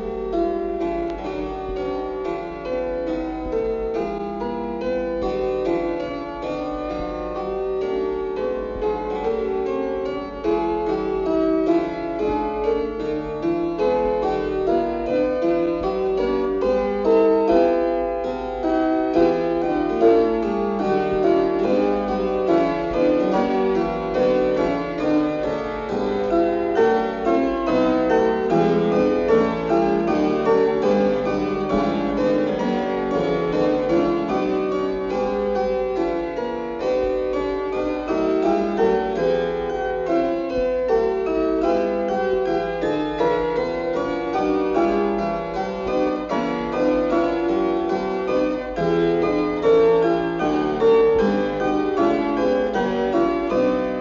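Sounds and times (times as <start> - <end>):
fast solo keyboard music: 0.0 - 54.0.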